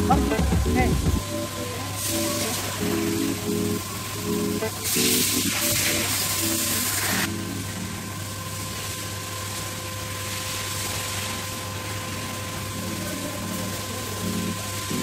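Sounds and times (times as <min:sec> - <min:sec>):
faint steady whine: 0:00.0 - 0:15.0
pressure-washer pump humming: 0:00.0 - 0:15.0.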